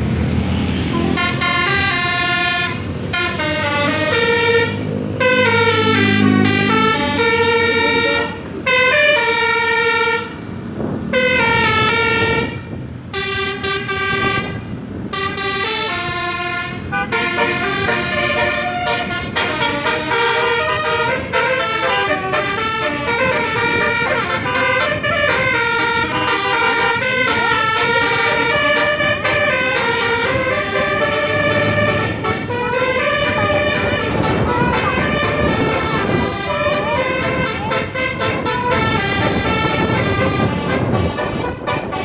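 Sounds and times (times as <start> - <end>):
musical air horn melody: 0.7 - 10.4, 11.1 - 42.0.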